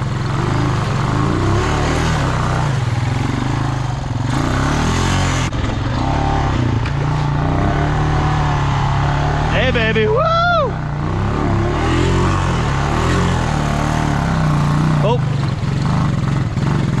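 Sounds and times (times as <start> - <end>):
atv engine revving: 0.0 - 17.0
noisy rush: 0.0 - 17.0.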